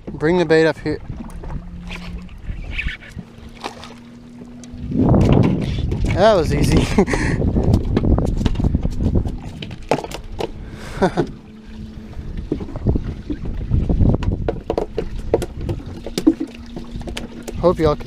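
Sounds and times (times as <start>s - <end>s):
knocks and clatter on boat: 0.0s - 18.0s
low steady rumble: 0.0s - 18.0s.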